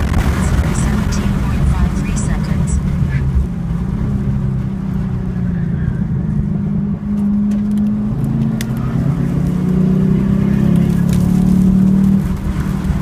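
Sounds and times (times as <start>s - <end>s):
car engine accelerating from inside: 0.0s - 13.0s.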